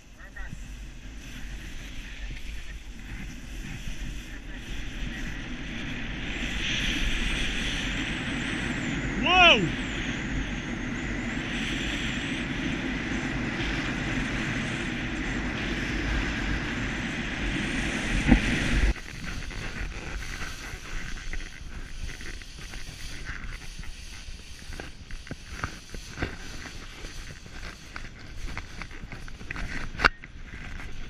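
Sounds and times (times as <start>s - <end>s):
skis scraping on snow: 0.0s - 8.8s, 11.6s - 31.0s
wind rushing over microphone: 0.0s - 31.0s.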